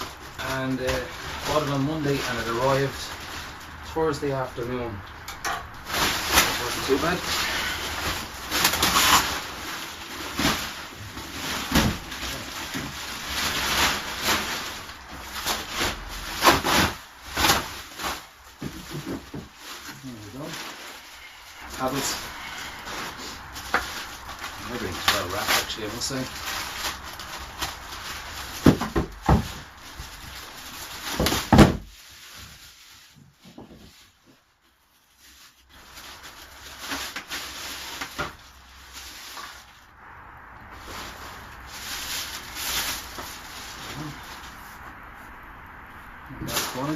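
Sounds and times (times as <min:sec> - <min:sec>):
plastic ripping: 0:00.0 - 0:34.2, 0:35.2 - 0:39.9, 0:40.7 - 0:44.8
packaging rustling: 0:00.0 - 0:34.4, 0:35.0 - 0:39.9, 0:40.6 - 0:45.1
plastic wrapping crinkling: 0:00.0 - 0:46.9.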